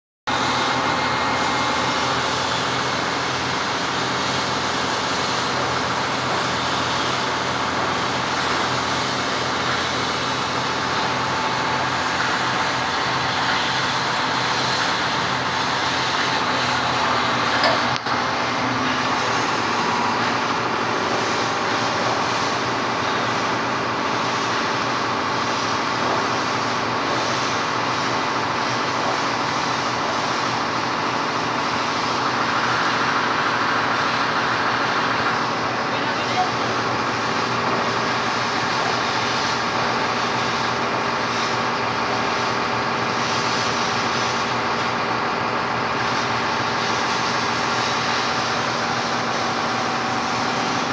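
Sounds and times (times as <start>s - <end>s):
crane engine running: 0.3s - 50.9s.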